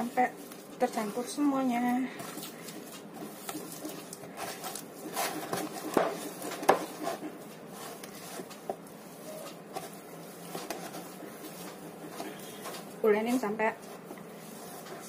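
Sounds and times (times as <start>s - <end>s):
hands kneading dough: 0.0s - 15.0s.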